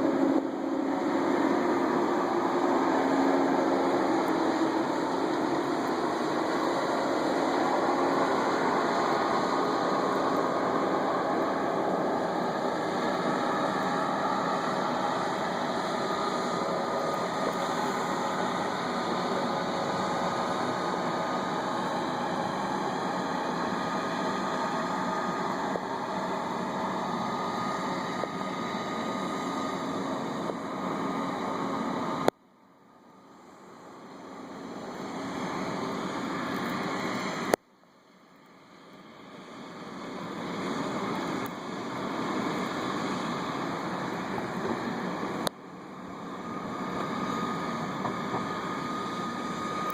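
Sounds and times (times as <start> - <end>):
diesel engine running: 0.0 - 32.3, 38.2 - 49.9
faint steady whine: 0.0 - 49.9.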